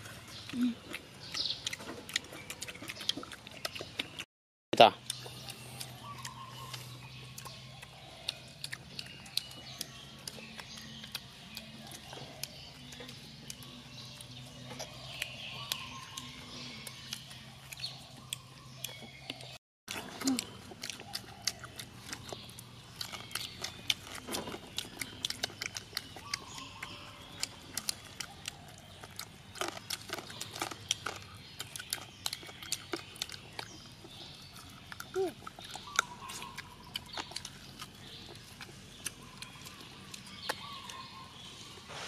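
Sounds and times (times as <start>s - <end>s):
people chewing and lip smacking: 0.0s - 42.0s.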